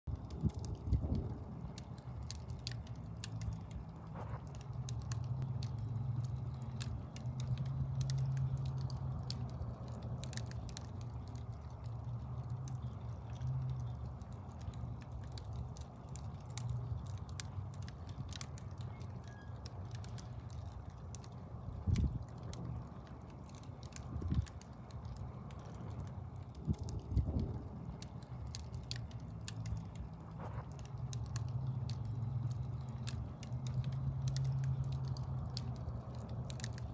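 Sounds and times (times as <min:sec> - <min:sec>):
low fire rumble: 0:00.0 - 0:36.9
wood fire crackling and popping: 0:00.1 - 0:36.9.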